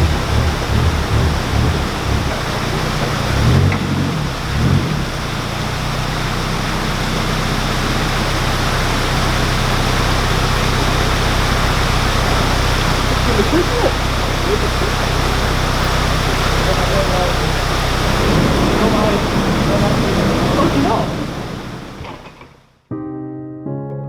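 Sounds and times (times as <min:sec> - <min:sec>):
constant rushing noise: 0:00.0 - 0:22.5
boat diesel engine droning: 0:00.0 - 0:22.6.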